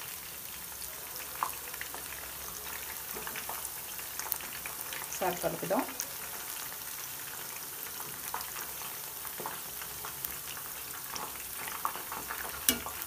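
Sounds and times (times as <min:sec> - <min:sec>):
deep-frying sizzle with crackles: 0:00.0 - 0:13.0.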